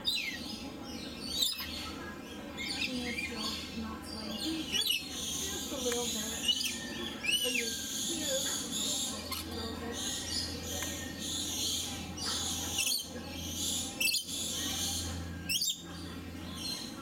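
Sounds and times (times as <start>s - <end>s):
birds chattering and chirping: 0.0s - 17.0s.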